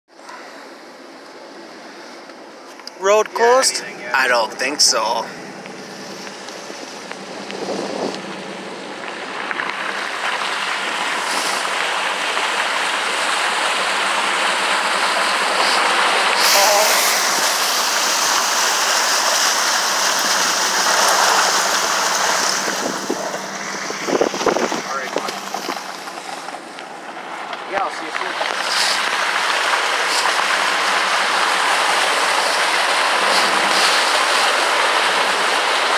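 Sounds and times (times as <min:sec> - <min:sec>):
tyres splashing through floodwater: 0:00.1 - 0:35.9.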